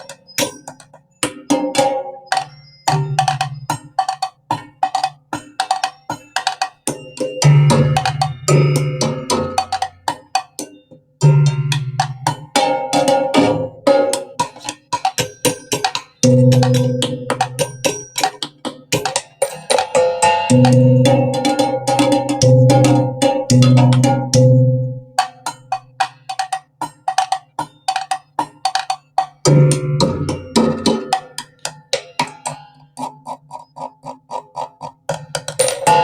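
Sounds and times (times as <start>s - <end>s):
ringing percussion strikes: 0.0s - 33.6s, 35.5s - 36.0s.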